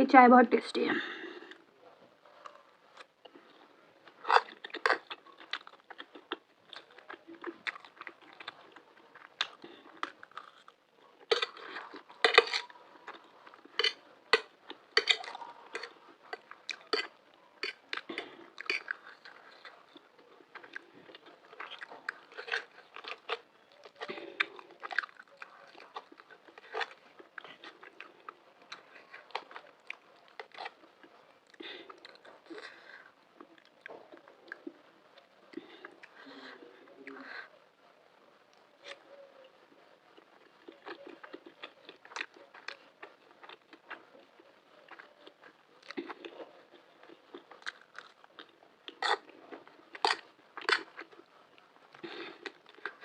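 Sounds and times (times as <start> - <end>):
person chewing food: 1.2 - 37.8, 38.6 - 53.0.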